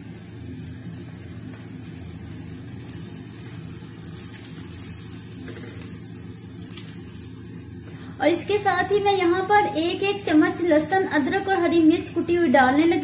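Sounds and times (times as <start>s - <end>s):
food sizzling in a wok: 0.0s - 12.2s.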